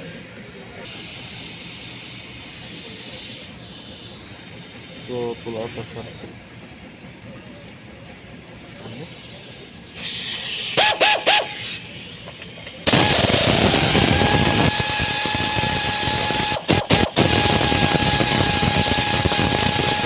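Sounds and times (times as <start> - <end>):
compressed air blow gun hissing: 0.0 - 7.0, 8.4 - 20.0.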